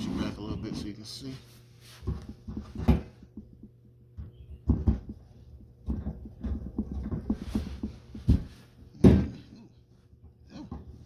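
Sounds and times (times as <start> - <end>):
small knocks and scuffs: 0.3 - 9.3.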